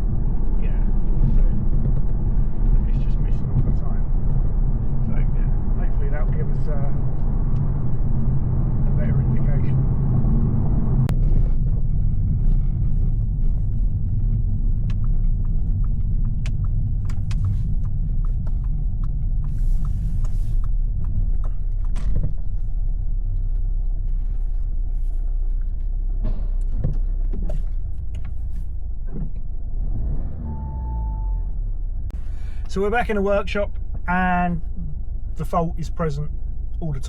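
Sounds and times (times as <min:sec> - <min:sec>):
road noise inside car: 0:00.0 - 0:37.0.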